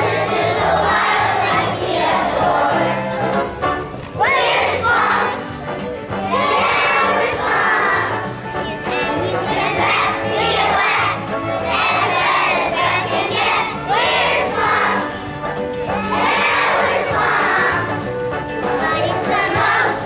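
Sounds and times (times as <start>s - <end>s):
children singing together: 0.0s - 3.2s, 4.2s - 5.5s, 6.2s - 15.3s, 15.9s - 18.1s, 18.7s - 20.0s
instrumental accompaniment with bass: 0.0s - 20.0s.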